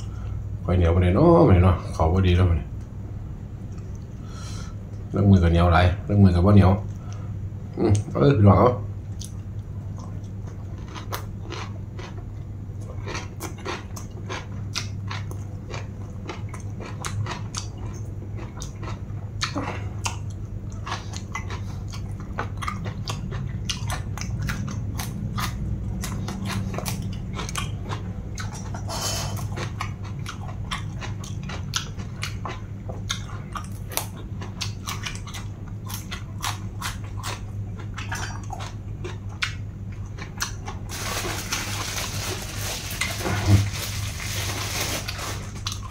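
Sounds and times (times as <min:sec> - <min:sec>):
person chewing crunchy food: 0:09.1 - 0:45.9.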